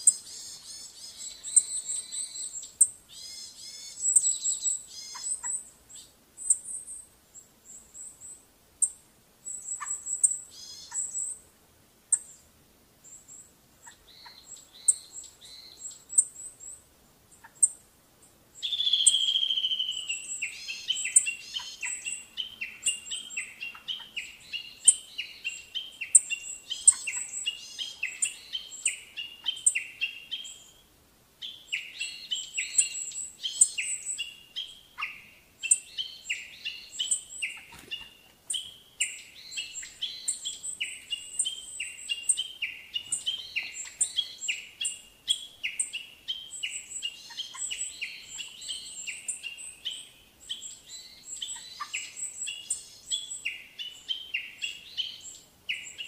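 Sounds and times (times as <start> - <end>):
birds chirping: 0.0 - 11.4, 12.1 - 56.0.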